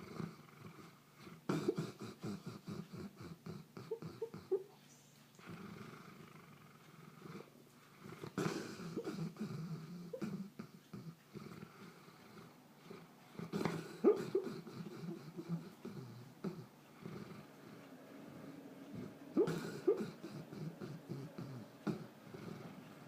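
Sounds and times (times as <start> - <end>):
dog snoring breaths: 0.0 - 23.0.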